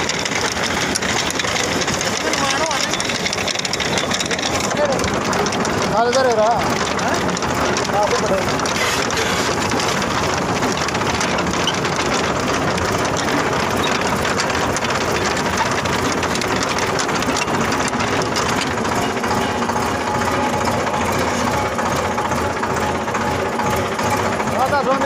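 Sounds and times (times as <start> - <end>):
engine running with rattle: 0.0 - 25.0.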